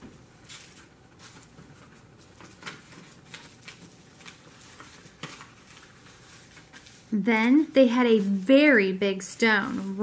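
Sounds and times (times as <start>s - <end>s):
paper rustling and creasing: 0.0s - 10.0s.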